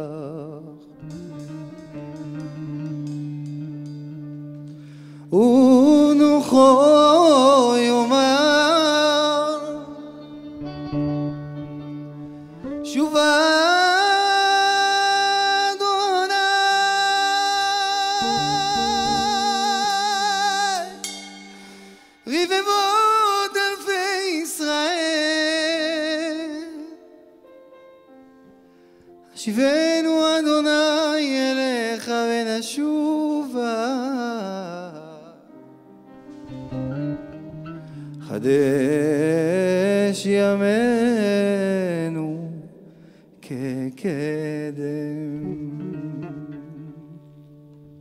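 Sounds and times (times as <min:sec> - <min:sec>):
man singing melismatic melody: 0:00.0 - 0:10.8, 0:12.4 - 0:27.3, 0:29.2 - 0:35.8, 0:36.9 - 0:48.0.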